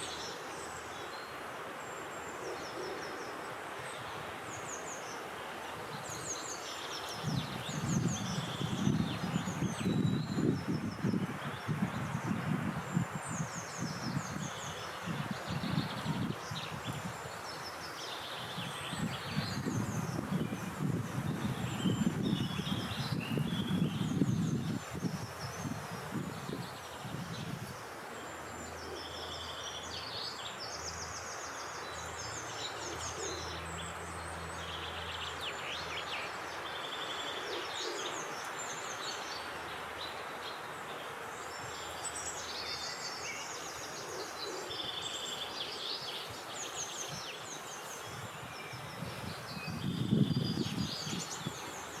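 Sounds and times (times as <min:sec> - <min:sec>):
songbirds singing: 0:00.0 - 0:52.0
wind hiss: 0:00.0 - 0:52.0.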